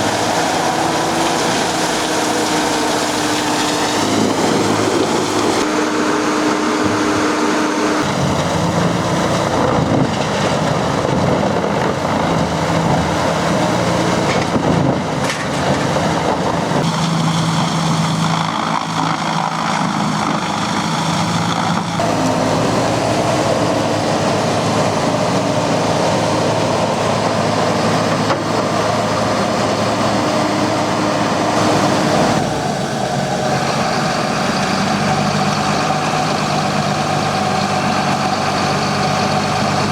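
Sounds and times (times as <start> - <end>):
wood chipper running: 0.0 - 39.9.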